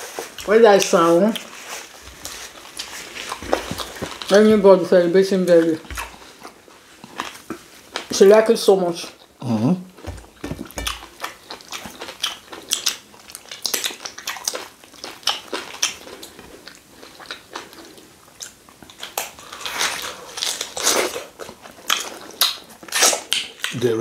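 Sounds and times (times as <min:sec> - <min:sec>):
people chewing and smacking lips: 0:00.0 - 0:24.0.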